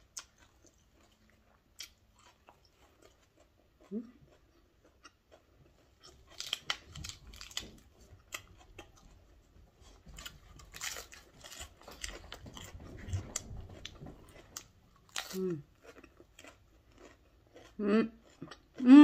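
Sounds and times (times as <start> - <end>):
person chewing crisp greens: 0.0 - 19.0.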